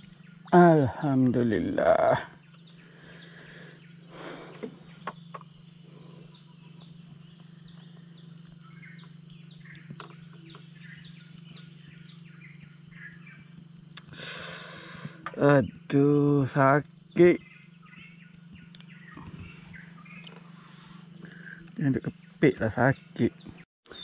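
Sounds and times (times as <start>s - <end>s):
high falling chirps: 0.0s - 23.2s
steady low hum: 0.0s - 24.0s.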